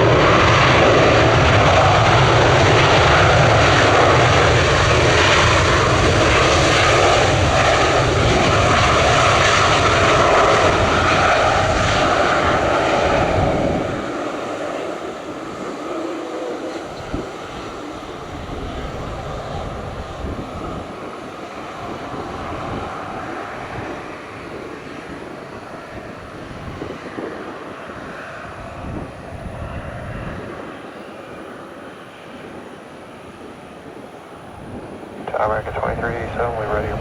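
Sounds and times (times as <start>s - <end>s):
jet engines rumbling: 0.0s - 37.0s.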